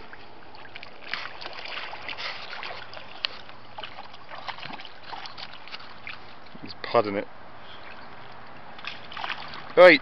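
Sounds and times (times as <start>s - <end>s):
water splashing and lapping: 0.0s - 10.0s.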